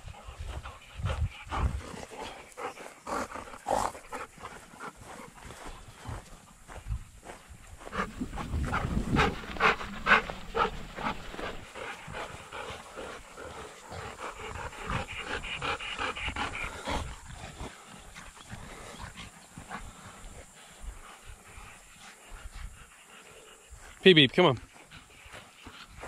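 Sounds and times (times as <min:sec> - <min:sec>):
dogs panting: 0:00.0 - 0:26.0.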